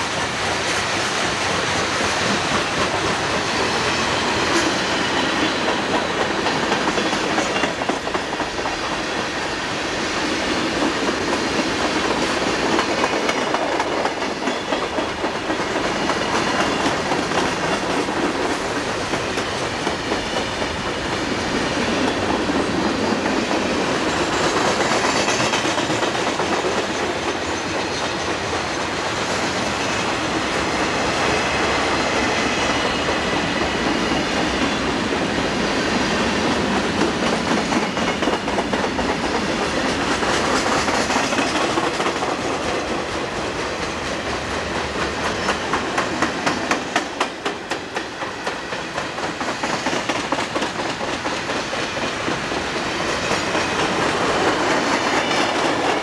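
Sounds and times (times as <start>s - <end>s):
train wheels clacking on rails: 0.0s - 56.0s.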